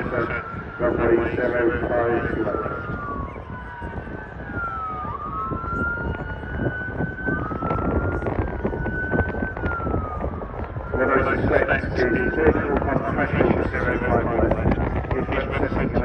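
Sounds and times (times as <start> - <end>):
sirens wailing: 0.0 - 16.0
steady low rumble: 0.0 - 16.0.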